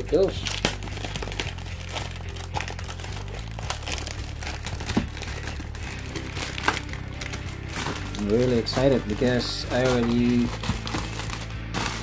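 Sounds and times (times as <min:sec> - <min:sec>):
background music: 0:00.0 - 0:12.0
plastic wrapper crinkling: 0:00.0 - 0:12.0.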